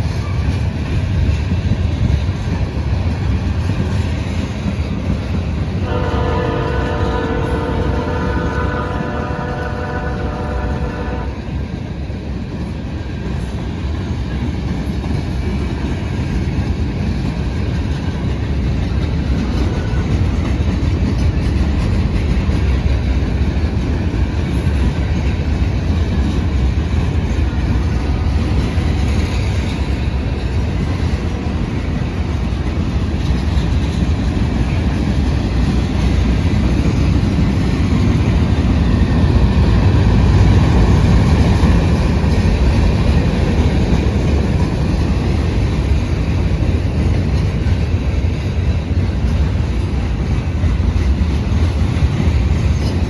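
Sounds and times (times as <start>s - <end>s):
freight train wheels rumbling on rails: 0.0s - 53.0s.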